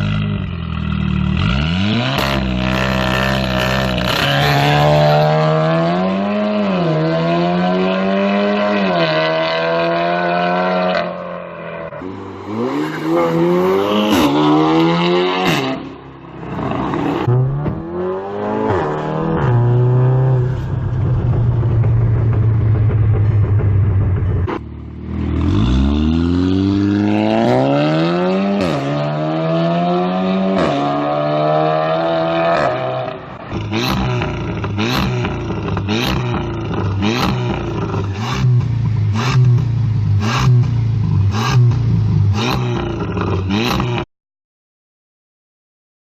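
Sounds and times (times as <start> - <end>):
car engine revving and accelerating: 1.2 - 44.1.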